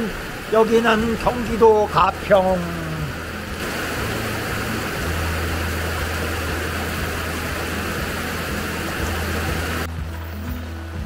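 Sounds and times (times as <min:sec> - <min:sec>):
torrential rain hiss: 0:00.0 - 0:11.0.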